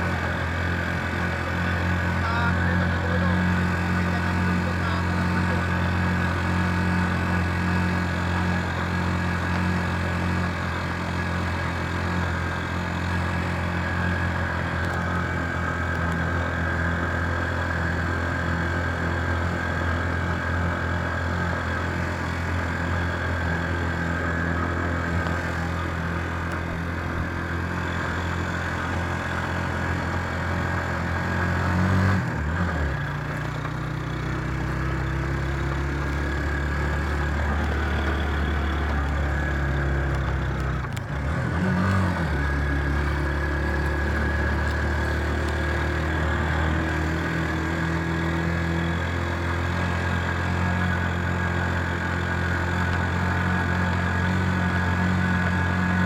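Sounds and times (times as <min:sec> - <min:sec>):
road noise: 0:00.0 - 0:56.0
vehicle engine running: 0:00.0 - 0:56.0.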